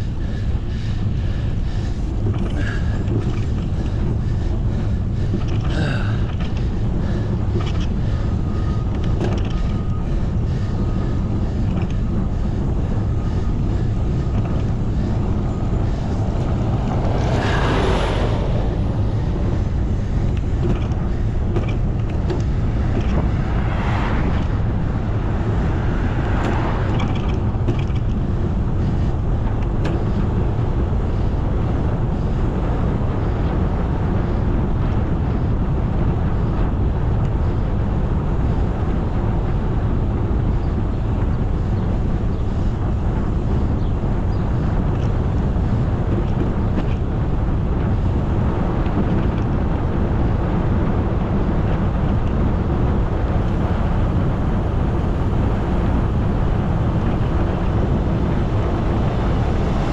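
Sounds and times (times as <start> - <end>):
bicycle road noise: 0.0 - 59.9
rush of noise: 0.0 - 59.9
wind rumbling on microphone: 0.0 - 59.9.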